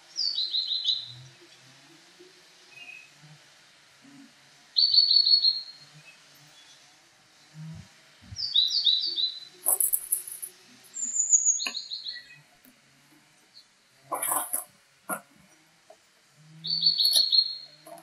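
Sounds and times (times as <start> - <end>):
songbirds chirping: 0.1 - 3.3, 4.0 - 18.0.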